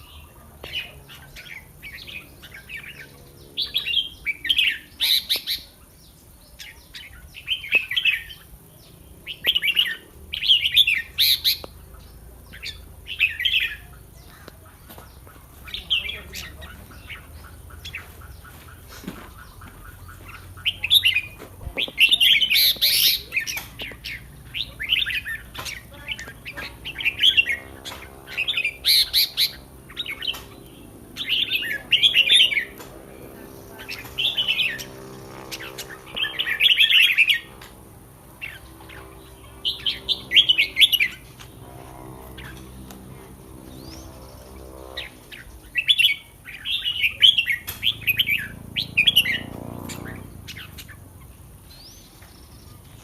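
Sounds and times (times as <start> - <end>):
bird singing warbling phrases: 0.0 - 42.9, 43.5 - 53.0.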